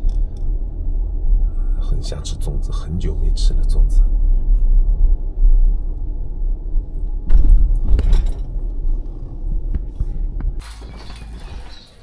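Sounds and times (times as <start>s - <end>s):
low rumble of car: 0.0s - 12.0s.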